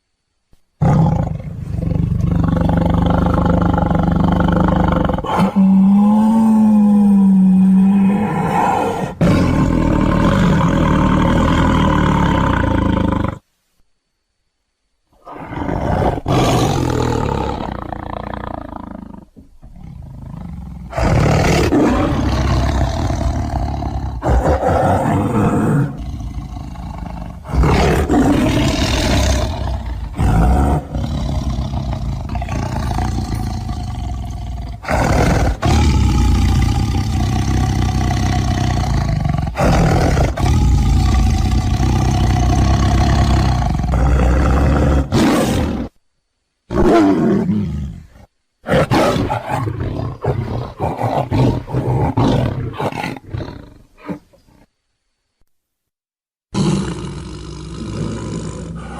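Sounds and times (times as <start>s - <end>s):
tiger roaring: 0.8s - 13.4s, 15.2s - 46.0s, 46.7s - 54.7s, 56.5s - 58.9s.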